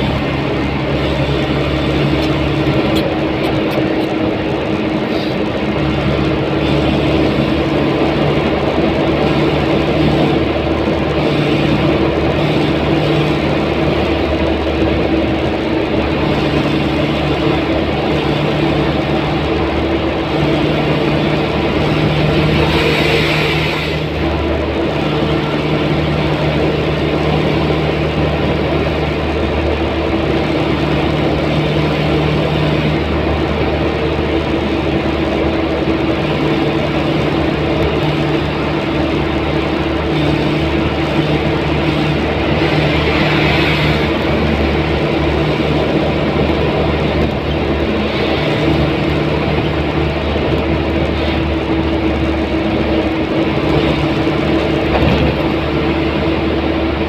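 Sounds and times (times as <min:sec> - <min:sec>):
engine drone in car cabin: 0:00.0 - 0:57.0
tyre and road noise: 0:00.0 - 0:57.0.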